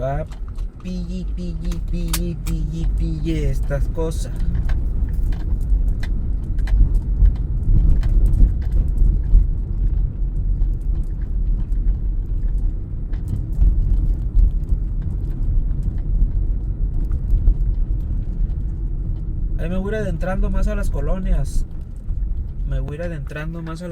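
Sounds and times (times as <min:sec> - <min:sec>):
car engine and road rumble: 0:00.0 - 0:23.9.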